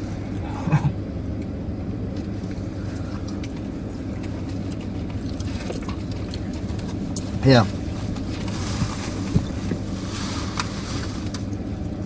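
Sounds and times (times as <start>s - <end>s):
car cabin rumble: 2.2s - 12.0s.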